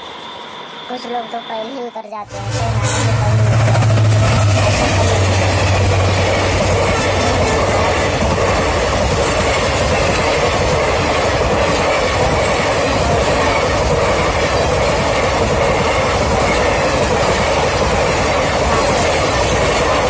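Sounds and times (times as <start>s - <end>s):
train wheels rumbling on rails: 2.2s - 20.0s.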